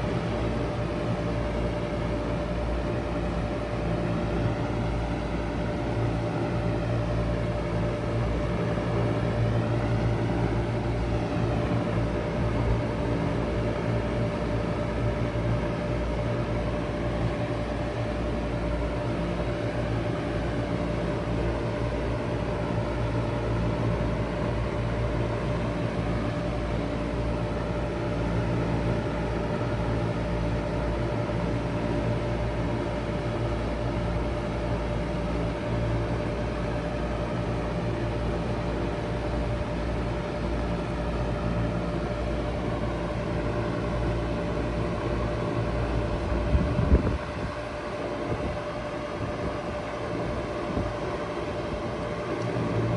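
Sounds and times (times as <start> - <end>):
heat pump humming: 0.0 - 52.9.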